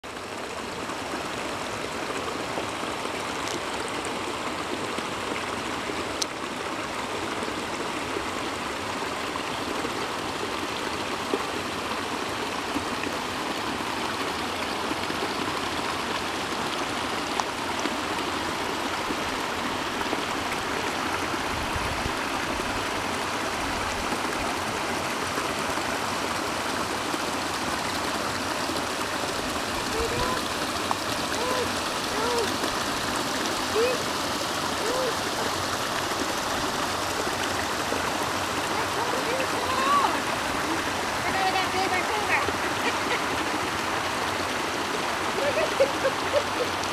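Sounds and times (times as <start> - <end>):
water rushing: 0.0 - 46.9.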